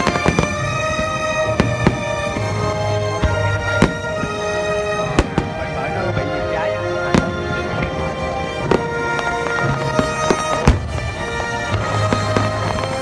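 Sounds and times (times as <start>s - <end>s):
background music: 0.0s - 13.0s
fireworks bangs: 0.0s - 13.0s.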